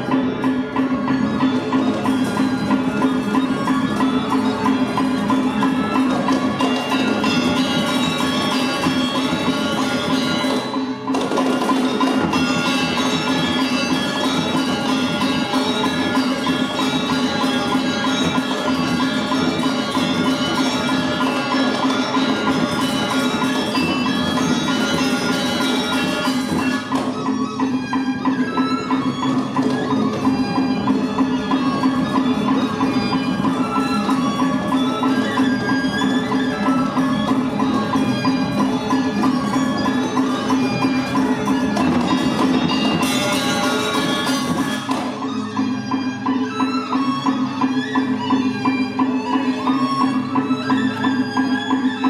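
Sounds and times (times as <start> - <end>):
gamelan metallophone and percussion music: 0.0 - 52.0.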